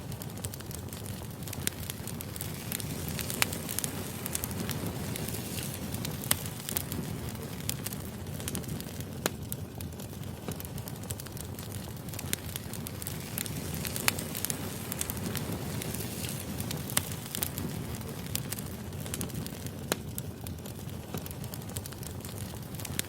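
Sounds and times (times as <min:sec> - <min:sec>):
firewood burning with crackles: 0:00.0 - 0:23.0
loud fire pops: 0:00.0 - 0:23.0.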